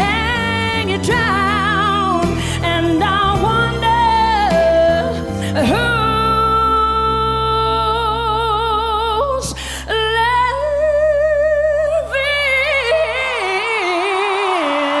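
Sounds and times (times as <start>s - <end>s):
backing track: 0.0s - 14.9s
woman singing ballad: 0.0s - 15.0s.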